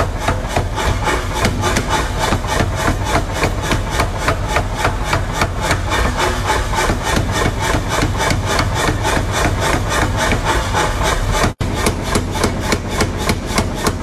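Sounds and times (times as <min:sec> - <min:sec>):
power hammer striking steel: 0:00.0 - 0:14.0.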